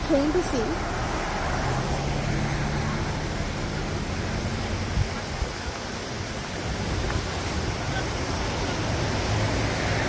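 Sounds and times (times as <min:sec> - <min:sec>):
waterfall rushing: 0:00.8 - 0:10.0.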